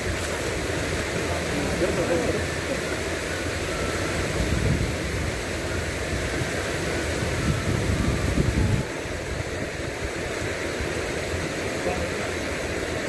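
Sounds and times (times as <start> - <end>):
wind buffeting microphone: 0.0 - 11.6
water rushing over weir: 0.0 - 13.0.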